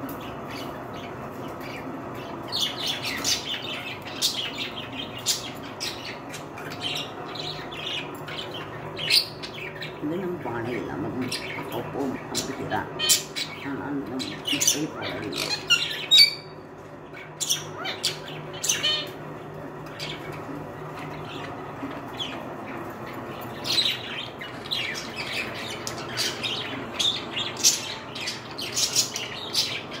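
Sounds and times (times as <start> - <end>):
budgerigars chirping and squawking: 0.0 - 30.0
faint low hum: 0.0 - 30.0.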